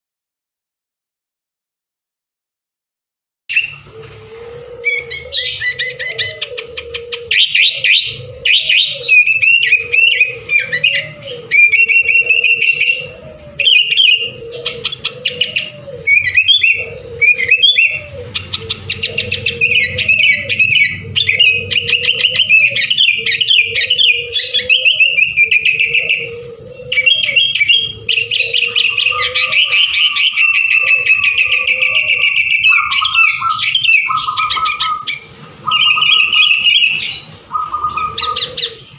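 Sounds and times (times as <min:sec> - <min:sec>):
bulbul singing: 0:03.5 - 0:38.9.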